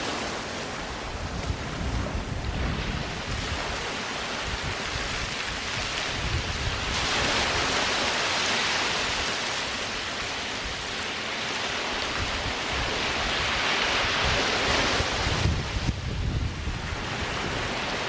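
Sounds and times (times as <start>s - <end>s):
waves washing onto beach: 0.0s - 18.0s.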